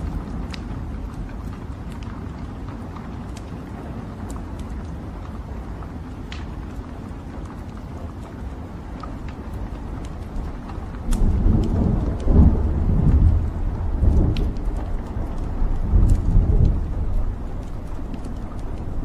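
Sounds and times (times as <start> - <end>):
logs crackling and popping: 0.0 - 19.0
low fire rumble: 0.0 - 19.0.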